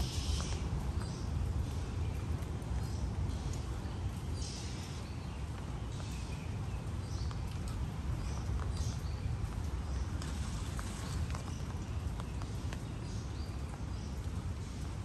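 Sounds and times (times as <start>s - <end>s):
birds chirping: 0.0s - 15.0s
footsteps on wet ground: 0.0s - 15.0s.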